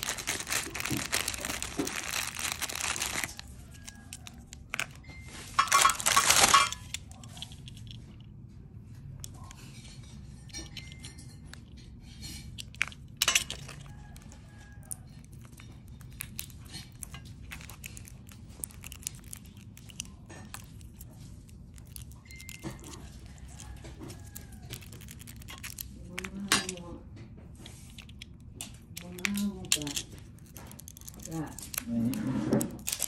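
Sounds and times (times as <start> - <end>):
hard objects clicking and clinking: 0.0 - 8.4, 9.1 - 27.0, 27.8 - 33.0.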